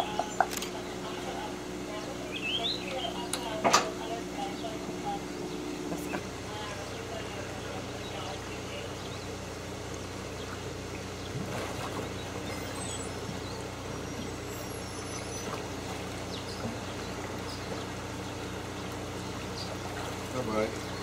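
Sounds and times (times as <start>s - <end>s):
low mechanical hum: 0.0s - 21.0s
water noise: 0.0s - 21.0s.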